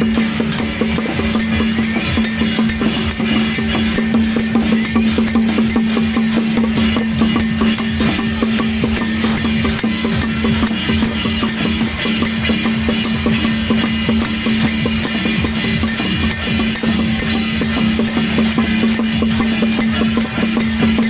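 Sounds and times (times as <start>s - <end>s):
drum beat: 0.0s - 21.0s.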